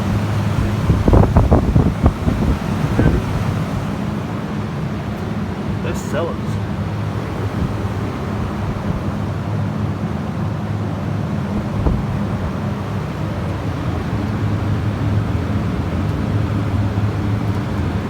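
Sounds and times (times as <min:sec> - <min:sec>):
evaporator fans droning: 0:00.0 - 0:18.0.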